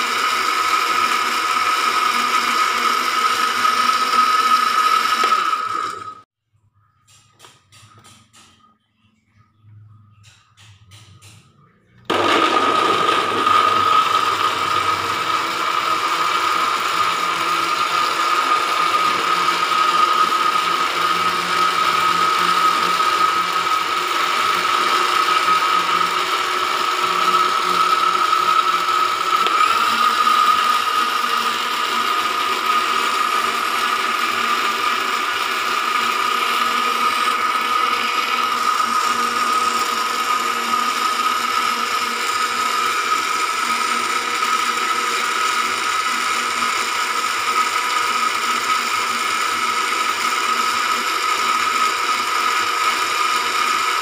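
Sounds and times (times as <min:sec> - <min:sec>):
blender motor whining: 0:00.0 - 0:06.3, 0:12.0 - 0:54.0.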